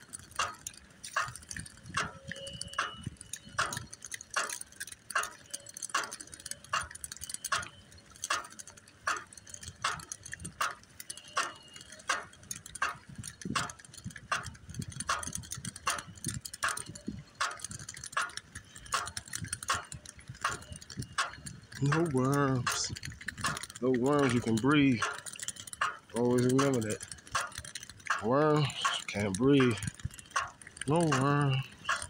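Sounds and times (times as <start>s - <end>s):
dog claws clicking on pavement: 0.0s - 32.0s
low road rumble: 0.0s - 32.0s.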